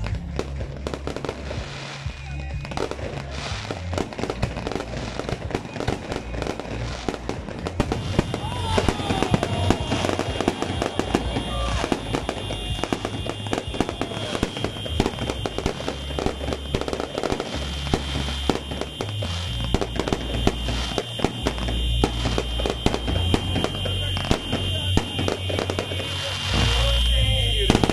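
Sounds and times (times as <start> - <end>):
fireworks banging and crackling: 0.0 - 27.9
music with bass line: 0.0 - 27.9.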